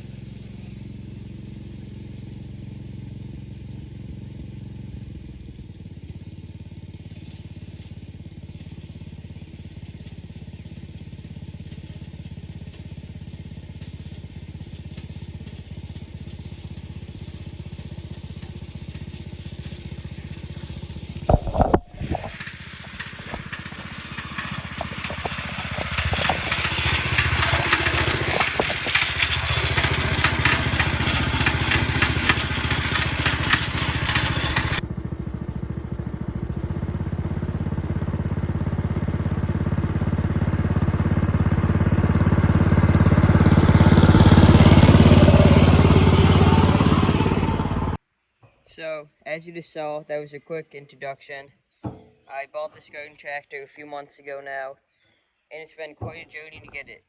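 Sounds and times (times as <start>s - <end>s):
small engine idling: 0.0s - 48.0s.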